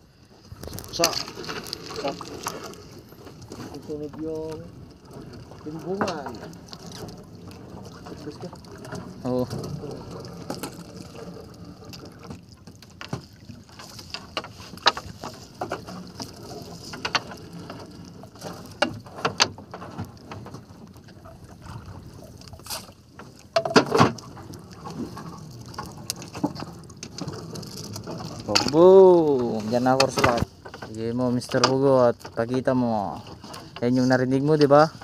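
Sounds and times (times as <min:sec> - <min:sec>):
knocks and clicks on boat: 0:00.9 - 0:35.0.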